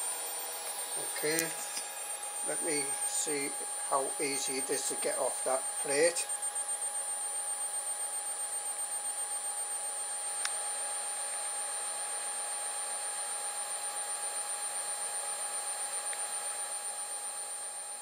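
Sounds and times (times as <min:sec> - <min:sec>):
electric fans humming and whining: 0:00.0 - 0:18.0.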